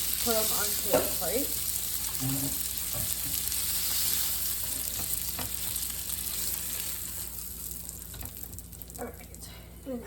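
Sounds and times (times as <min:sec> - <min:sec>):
meat sizzling in a frying pan: 0:00.0 - 0:09.4.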